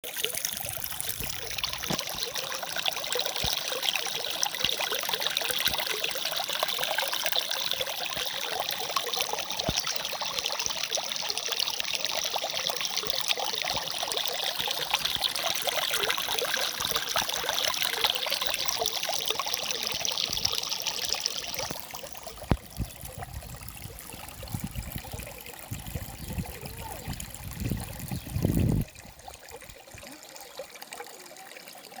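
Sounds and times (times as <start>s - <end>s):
water bubbling and trickling: 0.0s - 32.0s.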